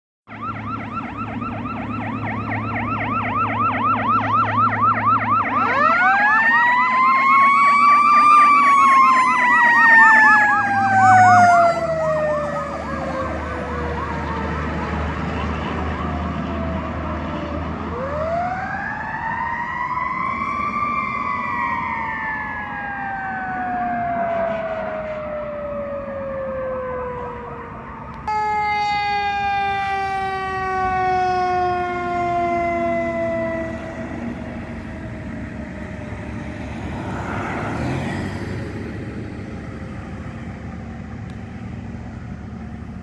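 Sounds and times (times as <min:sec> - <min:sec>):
electronic yelp siren: 0:00.3 - 0:41.0
diesel engine drone: 0:00.3 - 0:43.0
wailing siren: 0:00.3 - 0:43.0.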